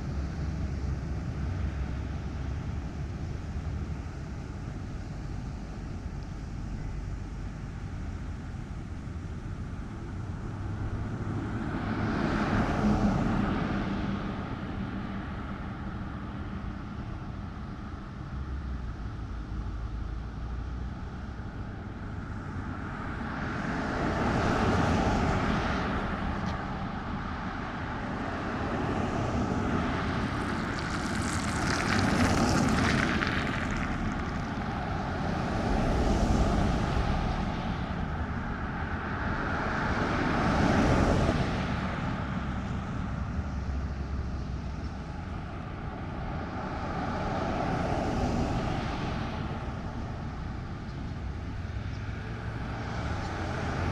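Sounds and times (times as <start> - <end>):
vehicles passing: 0.0 - 53.9.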